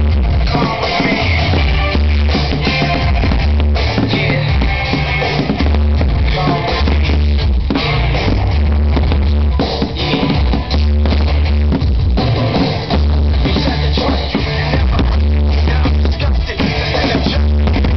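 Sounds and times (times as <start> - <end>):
loud rock music: 0.0 - 17.9.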